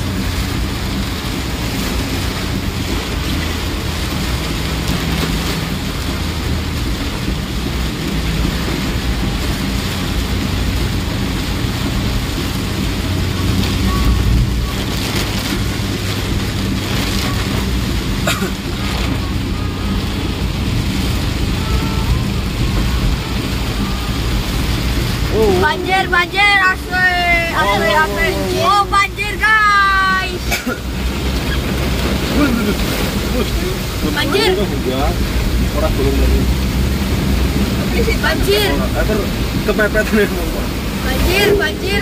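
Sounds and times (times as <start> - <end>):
heavy rain on vehicle: 0.0 - 42.0
low engine rumble: 0.0 - 42.0
wet road noise: 0.0 - 42.0.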